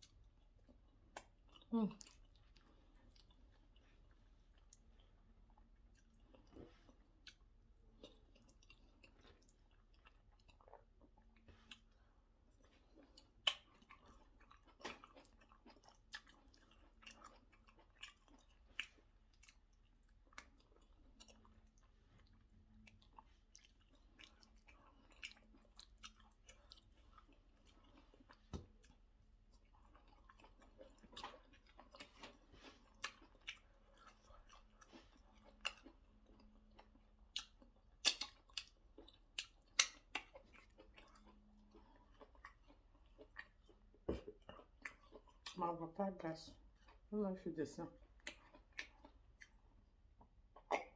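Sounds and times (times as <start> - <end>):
person chewing with lip smacks: 0.0 - 45.8, 48.0 - 50.9.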